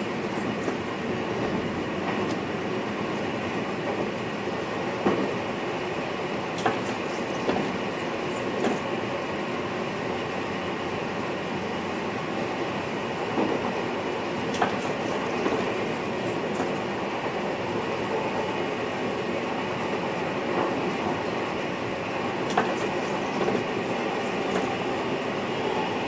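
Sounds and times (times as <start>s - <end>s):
train rolling rumble: 0.0s - 26.0s.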